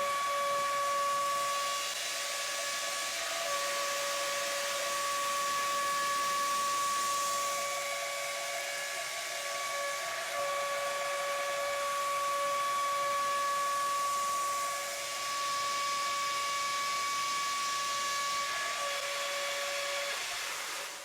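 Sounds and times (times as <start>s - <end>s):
machine hiss: 1.4s - 21.0s.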